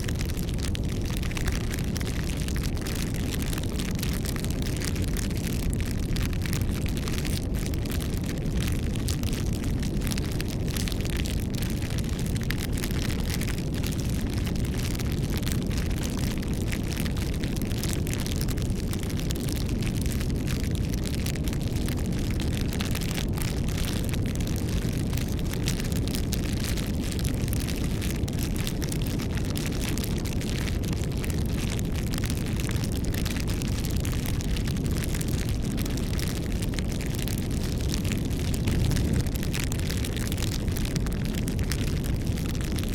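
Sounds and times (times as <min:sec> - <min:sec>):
bonfire flames rumbling: 0:00.0 - 0:42.9
fire crackling and popping: 0:00.0 - 0:42.9.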